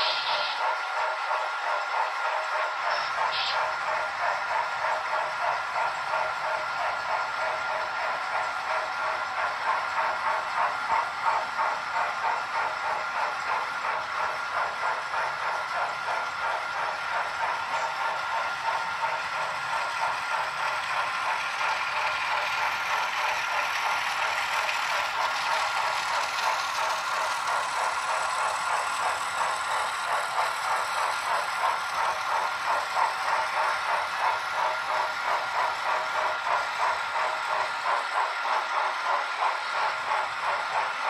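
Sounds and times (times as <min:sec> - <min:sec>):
model train wheels clattering: 0:00.0 - 0:41.0.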